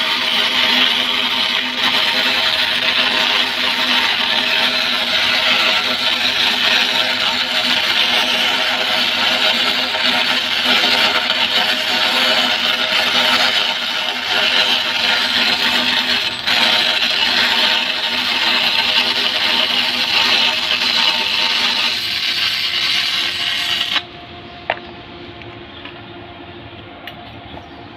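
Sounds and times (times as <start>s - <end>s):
welding arc hissing: 0.0s - 24.1s.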